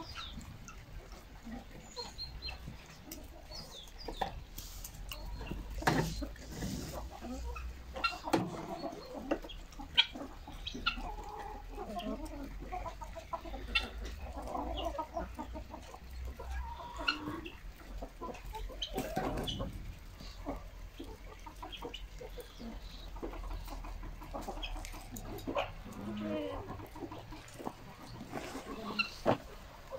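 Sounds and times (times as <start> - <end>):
chickens clucking: 0.0 - 29.9.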